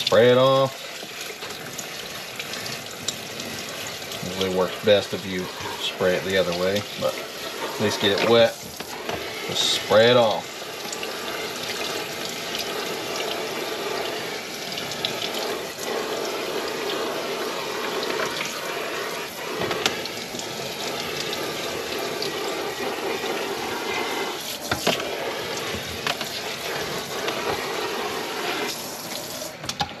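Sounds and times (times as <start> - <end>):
water spraying on filter: 0.0 - 29.8
water splashing into sink: 0.0 - 30.0.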